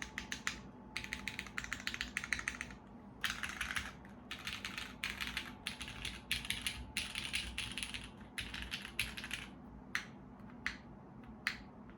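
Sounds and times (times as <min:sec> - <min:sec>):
mechanical keyboard typing: 0:00.0 - 0:10.7.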